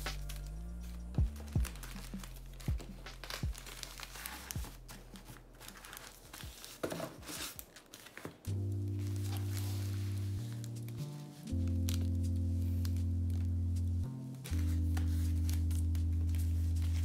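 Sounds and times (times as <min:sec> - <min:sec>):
paper packets rustling: 0:00.0 - 0:17.0.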